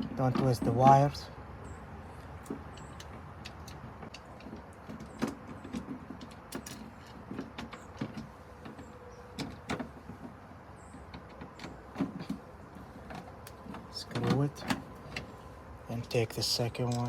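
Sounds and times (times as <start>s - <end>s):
light clicks and knocks: 0.0s - 17.0s.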